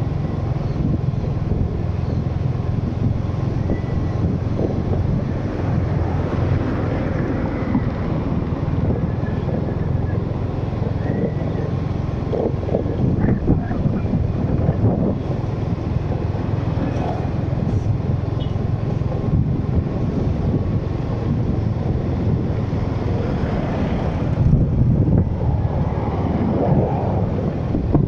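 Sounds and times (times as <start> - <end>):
vehicle rumbling on road: 0.0 - 28.0
wind buffeting microphone: 0.0 - 28.0.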